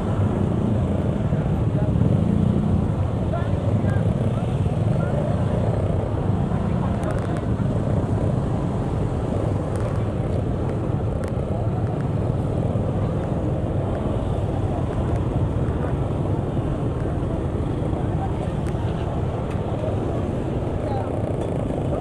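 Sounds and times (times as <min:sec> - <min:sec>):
vehicle road noise: 0:00.0 - 0:22.0.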